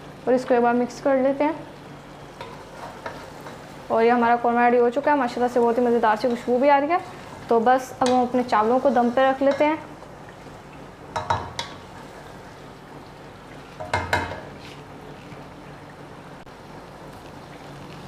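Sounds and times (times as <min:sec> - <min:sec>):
food sizzling in a pot: 0:00.0 - 0:15.2.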